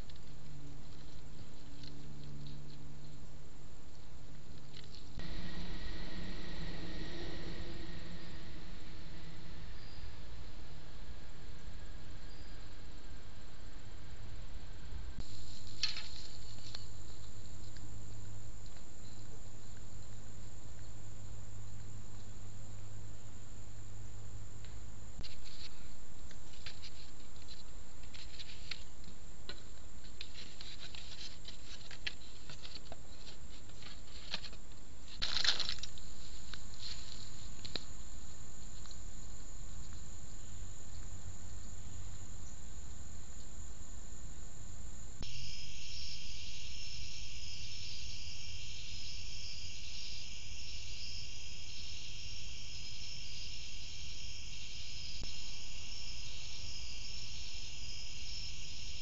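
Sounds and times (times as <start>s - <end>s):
night insects chirping: 0.0s - 59.0s.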